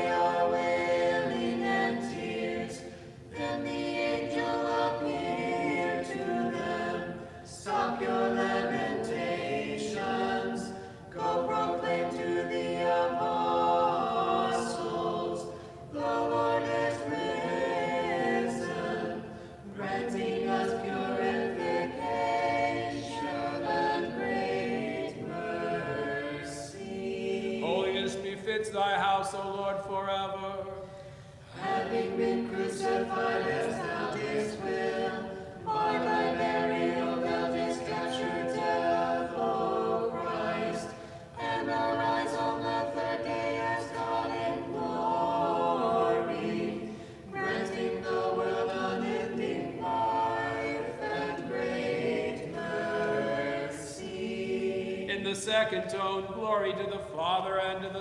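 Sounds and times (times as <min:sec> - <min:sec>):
church choir singing a hymn: 0:00.0 - 0:58.0.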